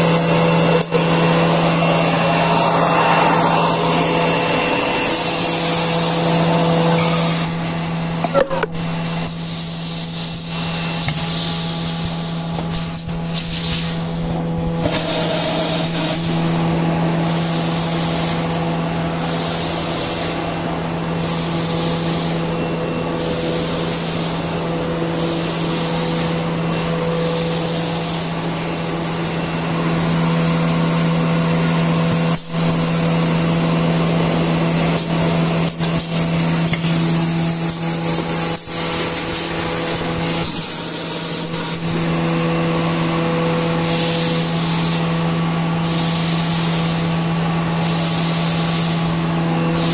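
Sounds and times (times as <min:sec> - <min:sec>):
machine hum: 0:00.0 - 0:49.9.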